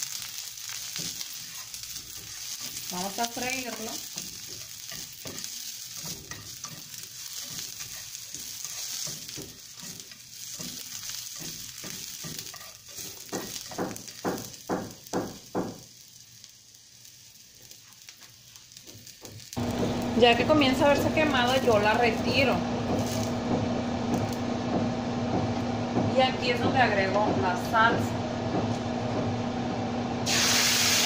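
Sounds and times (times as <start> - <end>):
stirring in a pan: 0.0 - 29.6
onions sizzling in a skillet: 0.0 - 31.0.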